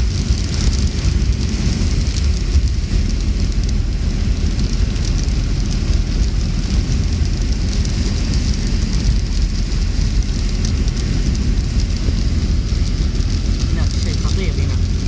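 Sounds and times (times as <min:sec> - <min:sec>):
continuous low rumble: 0:00.0 - 0:15.0
rain falling: 0:00.0 - 0:15.0.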